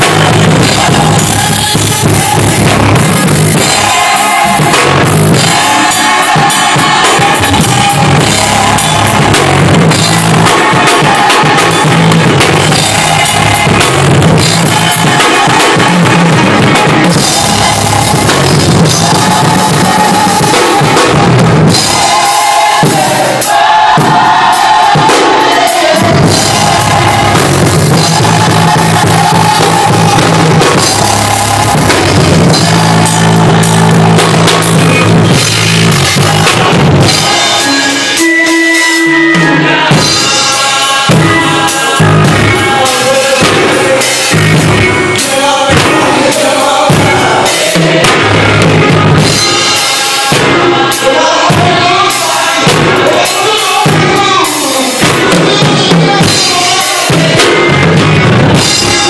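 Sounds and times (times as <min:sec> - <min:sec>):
drum kit playing: 0:00.0 - 0:59.0
organ holding chords: 0:00.0 - 0:59.0.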